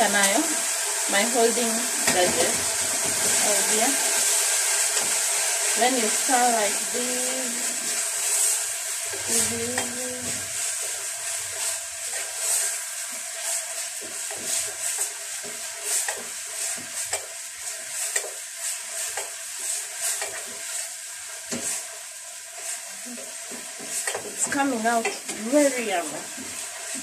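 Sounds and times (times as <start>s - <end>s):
simmering stew hissing: 0.0s - 27.0s.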